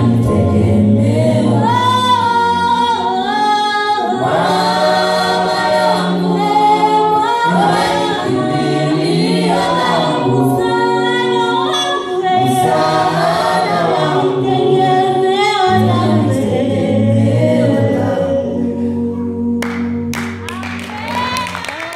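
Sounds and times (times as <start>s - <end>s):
a cappella group singing: 0.0s - 21.4s
woman singing lead: 0.0s - 21.9s.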